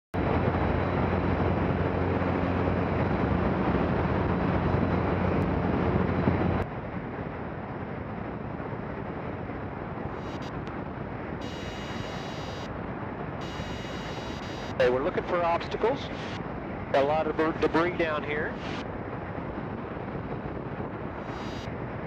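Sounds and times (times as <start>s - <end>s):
aircraft engine droning: 0.2s - 22.0s
wind rushing over microphone: 0.2s - 22.0s.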